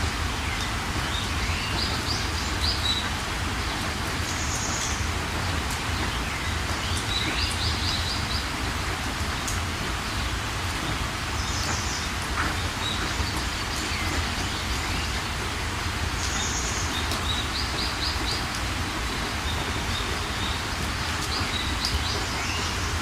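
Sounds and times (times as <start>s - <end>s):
heavy rain: 0.0s - 23.0s
songbirds chirping: 0.1s - 23.0s.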